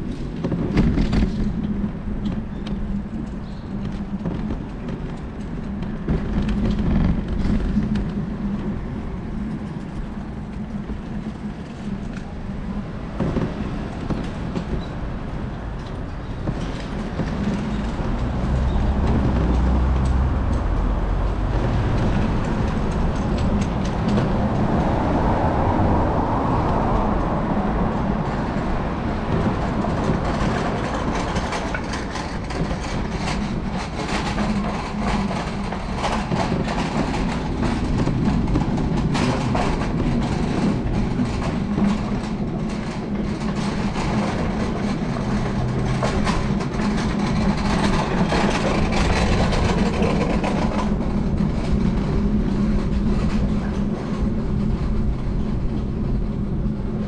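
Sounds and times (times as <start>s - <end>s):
city street noise: 0.0s - 57.0s
train passing on tracks: 0.0s - 57.0s.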